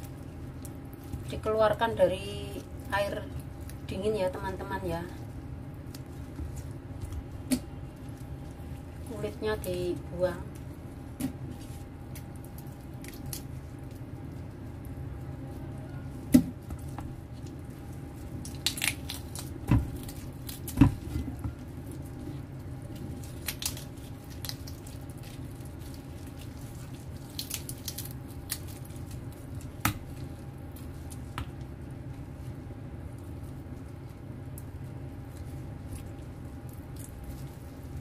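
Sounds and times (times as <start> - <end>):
steady low hum: 0.0 - 38.0
wet squishing and tearing of meat: 0.0 - 38.0.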